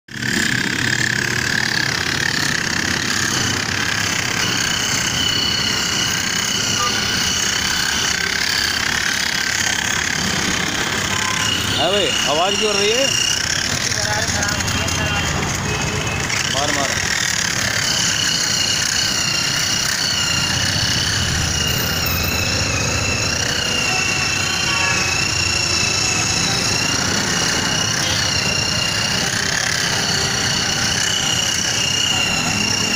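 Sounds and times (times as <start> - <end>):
fast rattling hum: 0.1 - 32.9
rotary polisher motor whine: 0.1 - 32.9.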